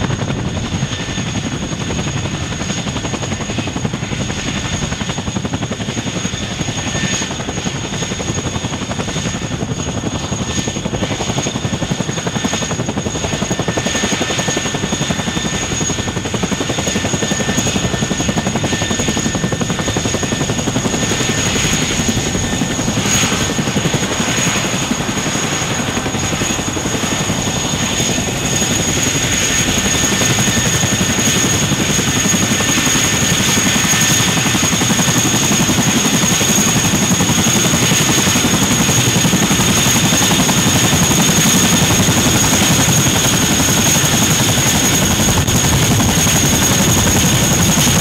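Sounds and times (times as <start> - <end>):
helicopter rotor and engine noise: 0.0 - 48.0
high turbine whine: 0.0 - 48.0.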